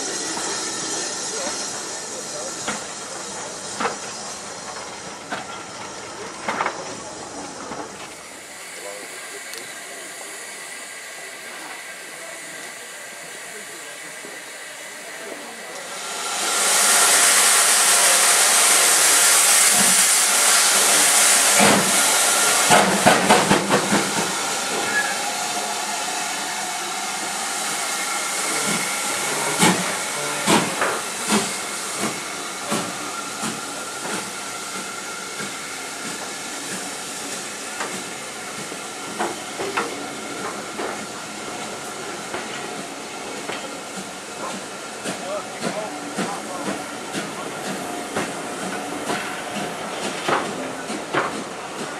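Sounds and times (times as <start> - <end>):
train clanks and knocks: 0.0 - 10.3, 15.1 - 51.9
steam hissing: 0.0 - 51.9.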